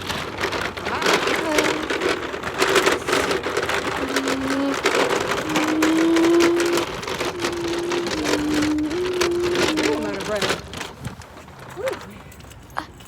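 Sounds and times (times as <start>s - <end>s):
heavy rain pattering: 0.0s - 12.5s.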